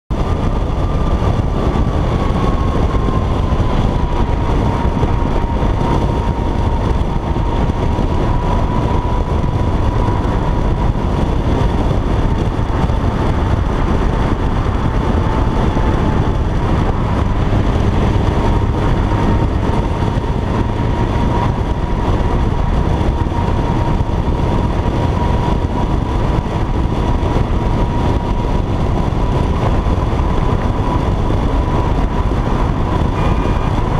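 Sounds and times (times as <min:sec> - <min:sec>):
thin whine: 0:00.1 - 0:33.9
wind and road noise from car: 0:00.1 - 0:33.9.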